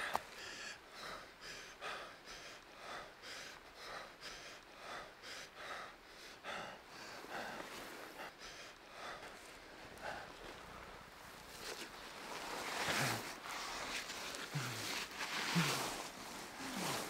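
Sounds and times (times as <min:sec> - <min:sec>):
man panting: 0:00.0 - 0:11.1, 0:12.9 - 0:17.0.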